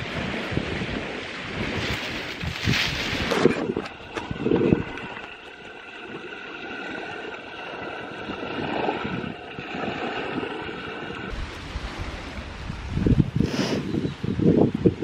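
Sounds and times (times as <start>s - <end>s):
small waves lapping on gravel: 0.0s - 12.7s
wind buffeting microphone: 0.0s - 15.0s.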